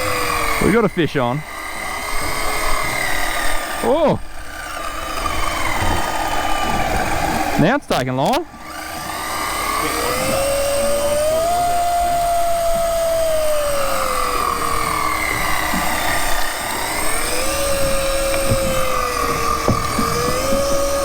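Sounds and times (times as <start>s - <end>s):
fishing reel motor whining: 0.0s - 21.0s.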